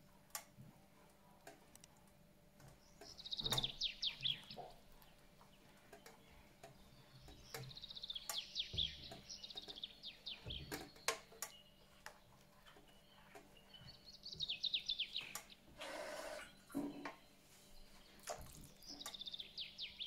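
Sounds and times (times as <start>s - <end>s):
songbird singing descending chirps: 2.8s - 15.7s, 16.4s - 20.0s.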